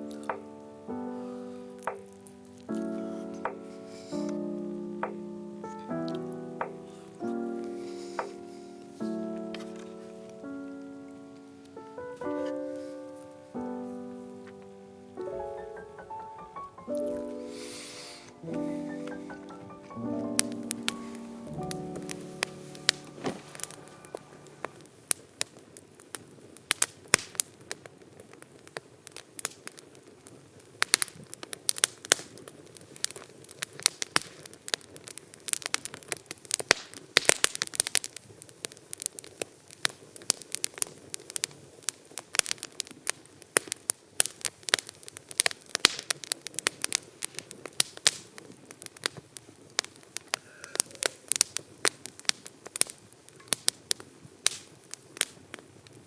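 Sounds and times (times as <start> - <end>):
campfire crackling: 0.0 - 56.0
faint low hiss: 0.0 - 56.0.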